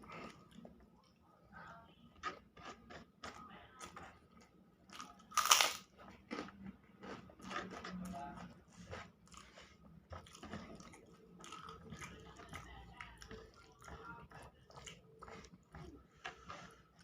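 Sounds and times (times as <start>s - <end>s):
close chewing and mouth sounds: 0.0s - 17.0s.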